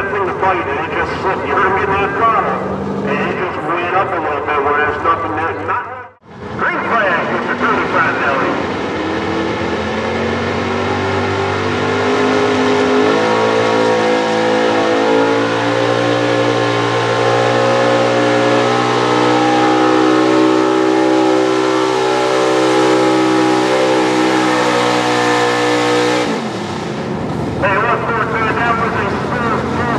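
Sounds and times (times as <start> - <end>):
truck engine at high revs: 0.0 - 29.9.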